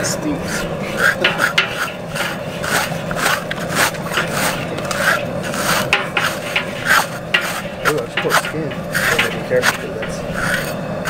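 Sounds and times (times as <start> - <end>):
rasping scraping of hide: 0.0 - 11.0
steady hum: 0.0 - 11.0.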